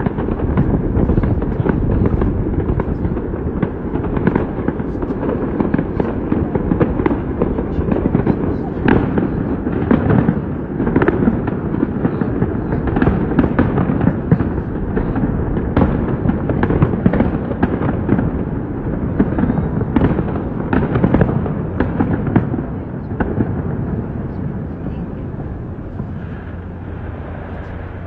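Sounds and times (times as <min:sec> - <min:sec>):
fireworks bangs and crackles: 0:00.0 - 0:28.0
low rumble: 0:00.0 - 0:28.0.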